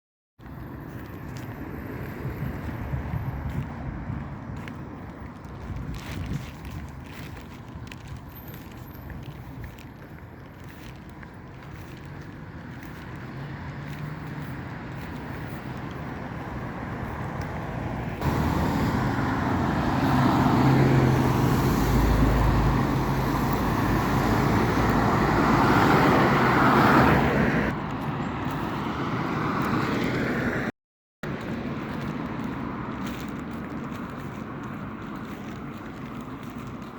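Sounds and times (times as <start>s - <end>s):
engine hum: 7.0s - 36.9s.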